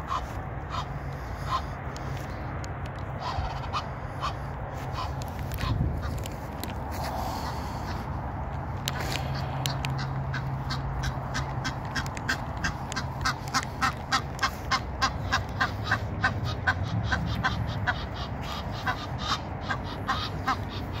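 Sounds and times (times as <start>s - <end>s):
goose honking: 0.0s - 2.1s, 3.2s - 6.2s, 9.0s - 21.0s.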